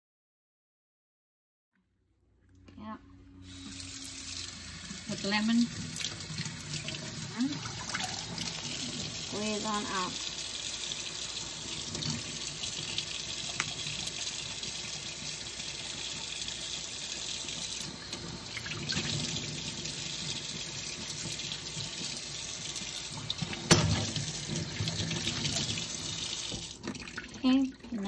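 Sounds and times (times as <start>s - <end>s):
faucet running into metal sink: 3.4s - 28.0s.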